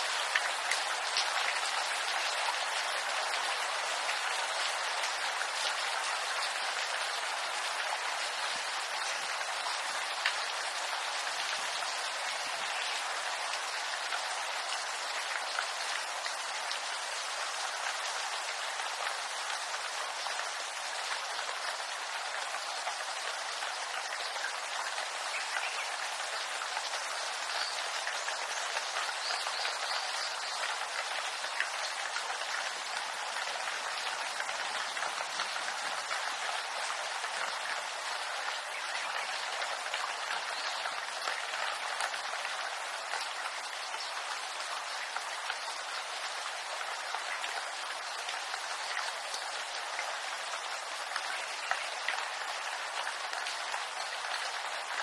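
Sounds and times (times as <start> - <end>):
rain falling on bamboo: 0.0 - 55.0.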